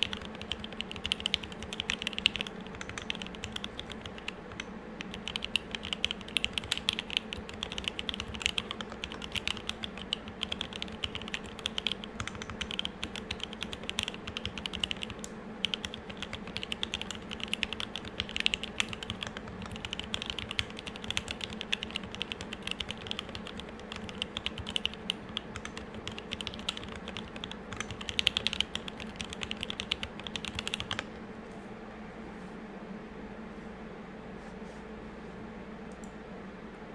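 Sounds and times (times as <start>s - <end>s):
mechanical keyboard typing: 0.0s - 31.1s
steady low hum: 0.0s - 36.9s.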